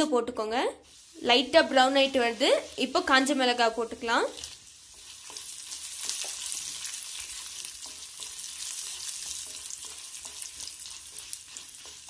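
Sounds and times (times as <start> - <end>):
lentils sizzling in hot oil: 0.0 - 12.0
wooden spatula stirring: 0.5 - 12.0.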